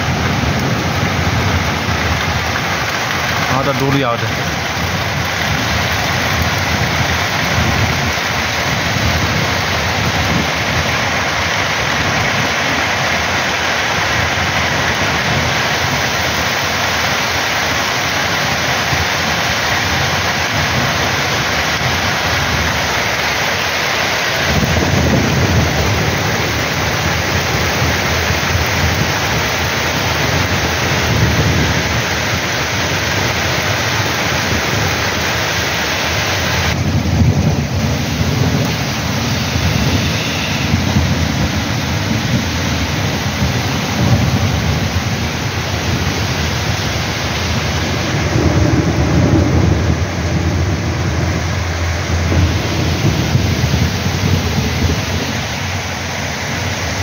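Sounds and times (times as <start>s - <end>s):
low rumble of thunder: 0.0s - 35.8s, 36.4s - 57.0s
heavy rain on street and roofs: 0.0s - 57.0s.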